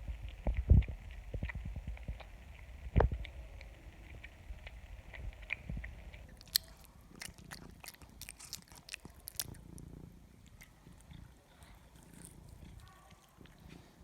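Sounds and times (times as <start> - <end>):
cat crunching food: 0.1 - 14.0.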